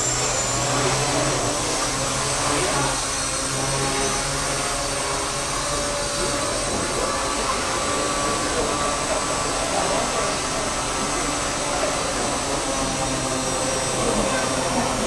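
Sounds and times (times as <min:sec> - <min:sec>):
toy helicopter motors whirring: 0:00.0 - 0:15.0.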